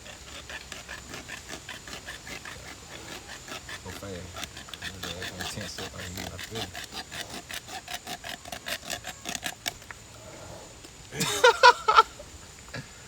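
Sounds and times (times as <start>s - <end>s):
saw rasping through tusk: 0.0s - 10.6s.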